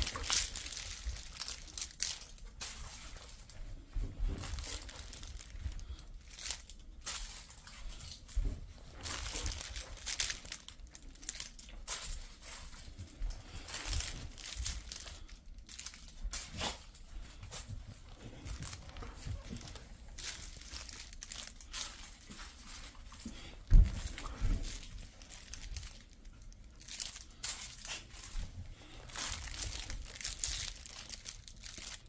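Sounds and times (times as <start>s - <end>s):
plush toy crinkling and rustling: 0.0s - 32.0s.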